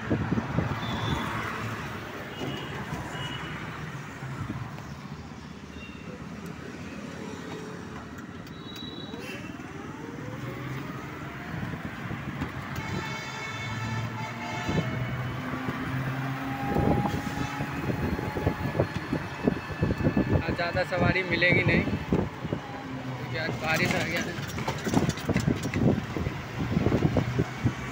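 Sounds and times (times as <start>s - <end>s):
road noise on wet road: 0.0s - 27.9s.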